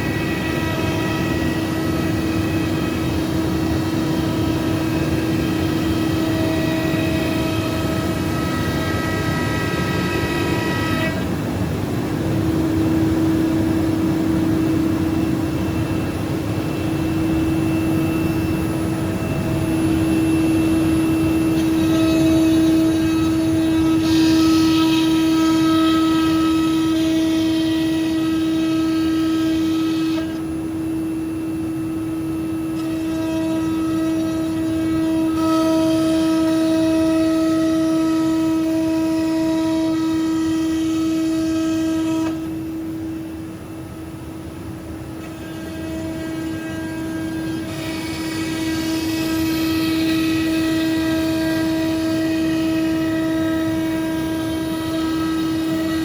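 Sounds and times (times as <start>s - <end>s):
hiss of bit cutting plywood: 0.0s - 30.6s, 31.8s - 42.7s, 45.2s - 56.0s
router spindle whining: 0.0s - 56.0s.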